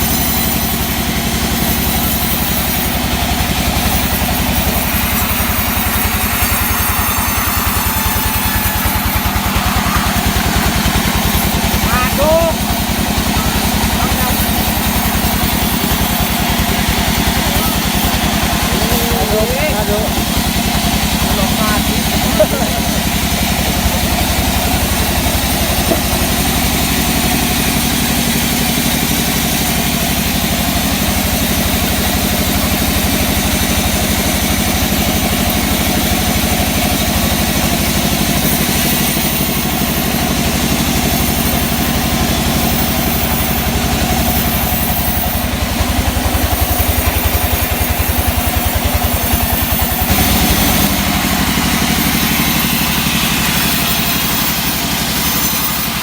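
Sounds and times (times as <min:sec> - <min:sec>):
engine drone: 0:00.0 - 0:56.0.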